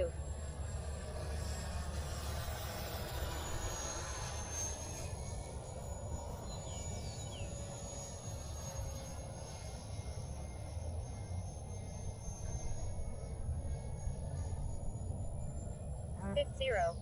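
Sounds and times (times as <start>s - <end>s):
jet fan whine: 0.0s - 17.0s.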